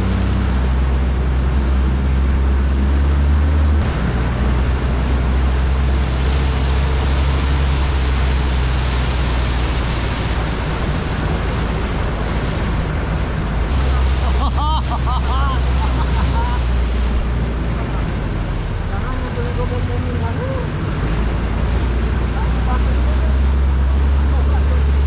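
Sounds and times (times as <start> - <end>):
steady rushing noise: 0.0 - 25.0
vehicle engine under load: 0.0 - 25.0.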